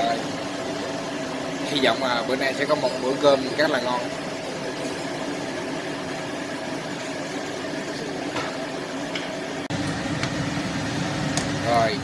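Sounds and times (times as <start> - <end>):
kitchen hum: 0.0 - 12.0
pot simmering: 0.0 - 12.0.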